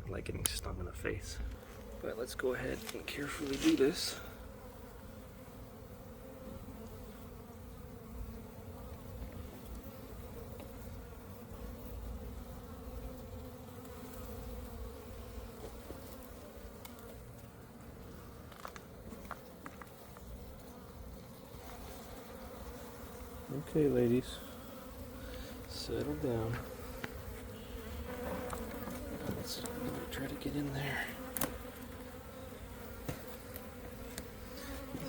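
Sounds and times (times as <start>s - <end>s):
honeybees buzzing: 0.1s - 35.0s.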